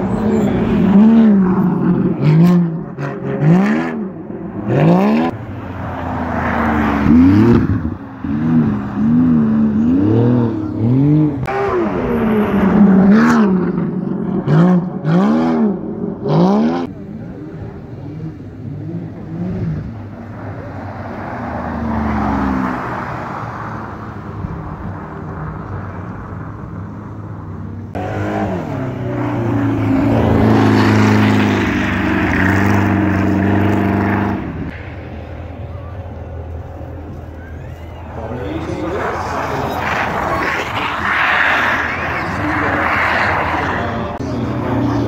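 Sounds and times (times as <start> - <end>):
race car engine revving: 0.0 - 24.0, 27.9 - 34.8, 36.6 - 45.0.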